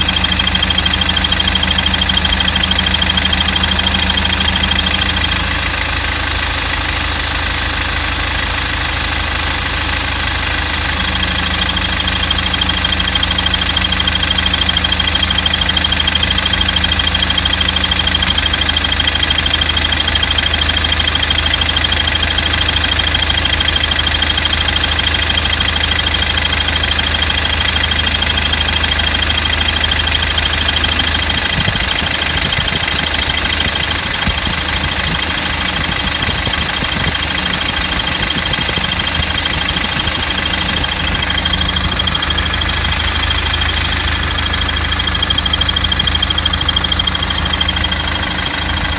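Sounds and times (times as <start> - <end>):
high-pitched squeak from engine: 0.0 - 5.8, 10.6 - 48.9
car engine idling: 0.0 - 48.9.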